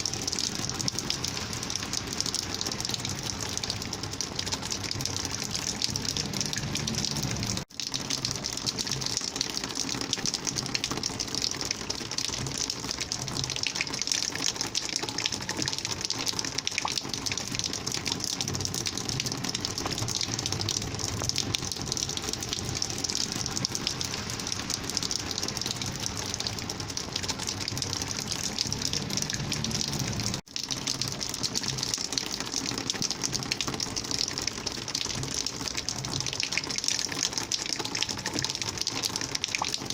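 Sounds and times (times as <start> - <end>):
rainwater gushing: 0.0 - 39.9.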